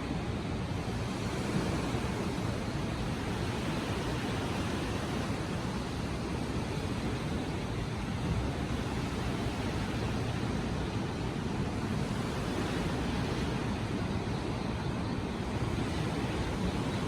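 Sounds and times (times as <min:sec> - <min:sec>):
ocean surf roaring: 0:00.0 - 0:17.0.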